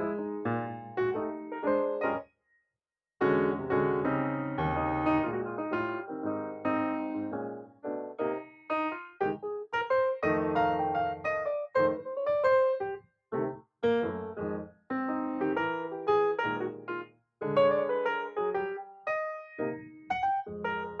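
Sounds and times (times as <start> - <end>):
piano music: 0.0 - 2.2, 3.2 - 21.0.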